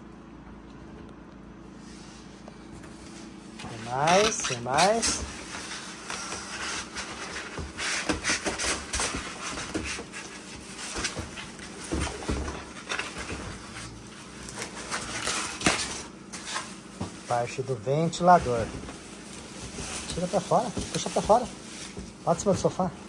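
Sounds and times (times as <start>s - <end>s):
packaging rustling: 3.6s - 23.0s.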